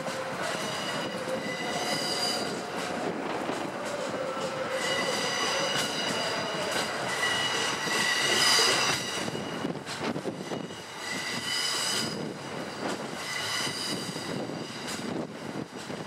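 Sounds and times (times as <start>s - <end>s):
train wheels squealing: 0.0s - 15.2s
rumble of train wheels: 0.0s - 16.0s.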